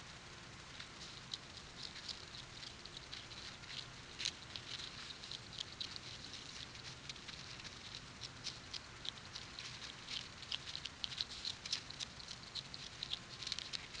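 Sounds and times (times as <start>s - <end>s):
faint steady hiss: 0.0s - 14.0s
skunk crunching snow: 0.7s - 14.0s.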